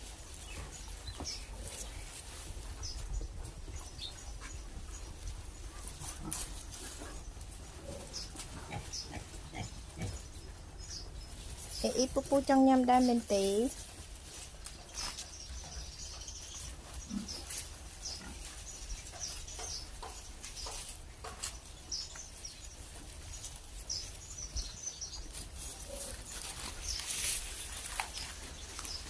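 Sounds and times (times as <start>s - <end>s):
pigs crunching food: 0.0s - 29.0s.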